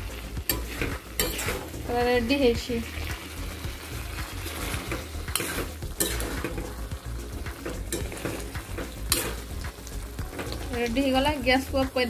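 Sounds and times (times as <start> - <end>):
faint sizzle: 0.0 - 12.0
spatula scraping and knocking wok: 0.0 - 12.0.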